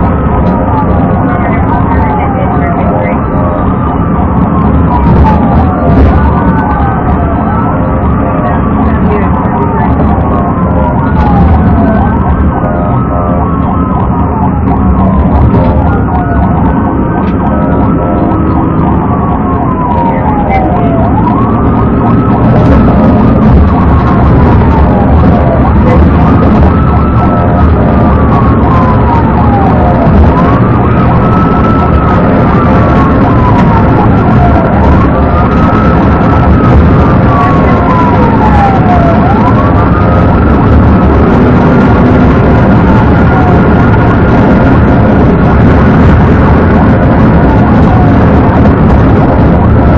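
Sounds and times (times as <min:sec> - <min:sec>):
police sirens wailing: 0:00.0 - 0:49.9
road and engine rumble: 0:00.0 - 0:49.9.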